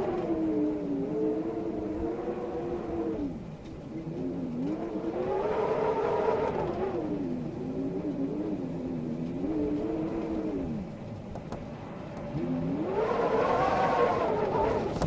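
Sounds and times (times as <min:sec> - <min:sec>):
wind howling: 0:00.0 - 0:15.0.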